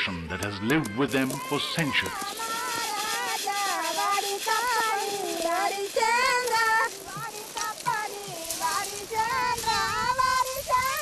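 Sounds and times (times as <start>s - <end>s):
high-pitched voices singing: 0.0s - 11.0s.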